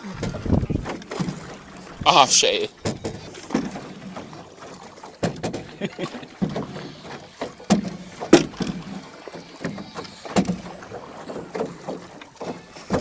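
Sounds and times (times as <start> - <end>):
paddles knocking on boat: 0.0 - 13.0
water splashing: 0.0 - 13.0.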